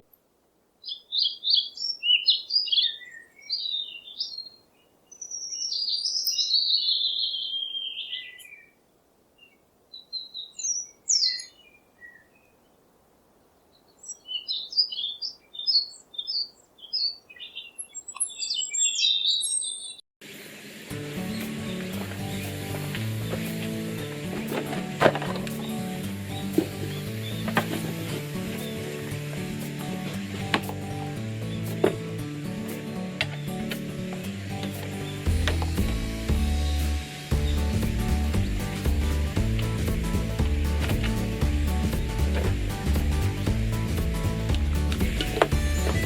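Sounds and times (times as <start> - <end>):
birds chirping and warbling: 0.8 - 12.8, 13.5 - 20.0, 21.2 - 46.0.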